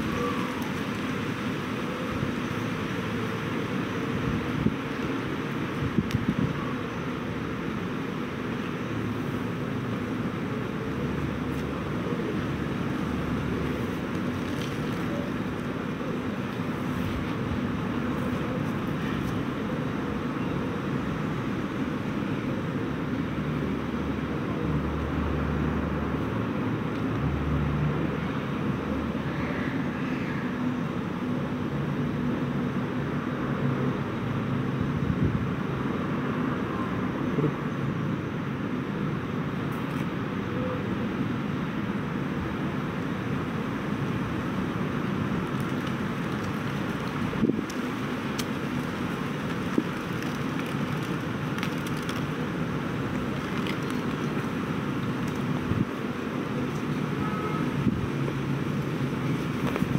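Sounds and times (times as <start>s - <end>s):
faint constant hum: 0.0s - 59.9s
outdoor background noise: 0.0s - 59.9s.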